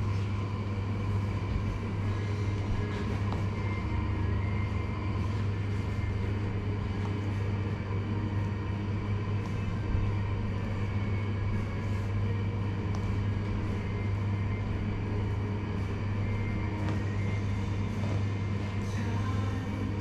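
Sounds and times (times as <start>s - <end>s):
low electric appliance buzz: 0.0s - 20.0s.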